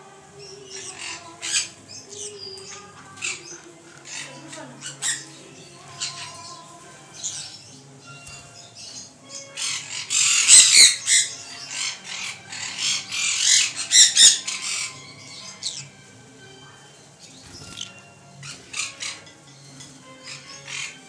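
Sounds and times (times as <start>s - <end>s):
parrots squawking and screeching: 0.4s - 21.0s.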